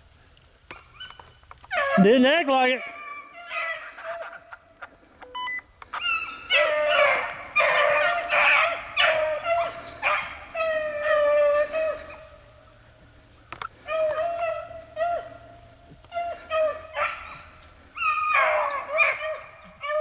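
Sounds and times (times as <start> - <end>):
hounds baying: 0.7 - 20.0.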